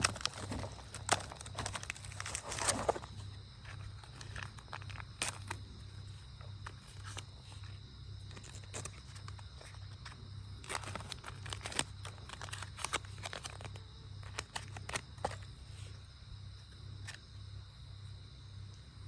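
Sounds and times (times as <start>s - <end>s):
crinkling rustles: 0.0s - 16.0s.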